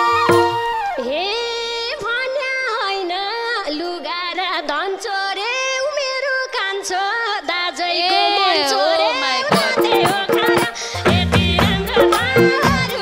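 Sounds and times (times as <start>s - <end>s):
woman singing folk song: 0.9s - 13.0s.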